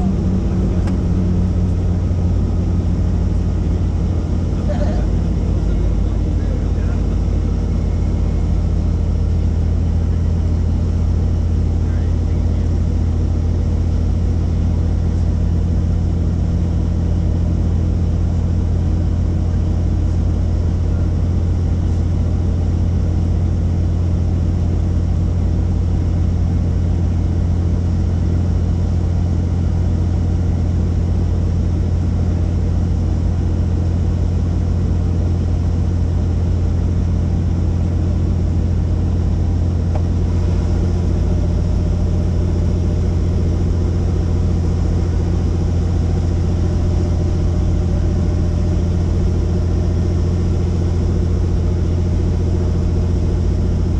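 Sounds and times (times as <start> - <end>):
helicopter rotor and engine drone: 0.0 - 53.9.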